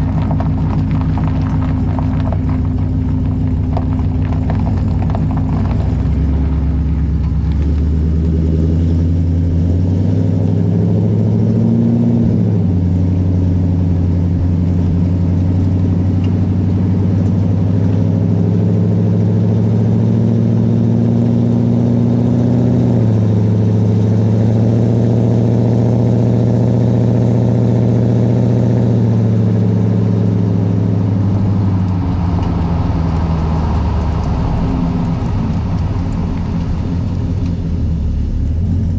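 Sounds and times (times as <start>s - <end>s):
truck engine exhaust drone: 0.0s - 38.9s.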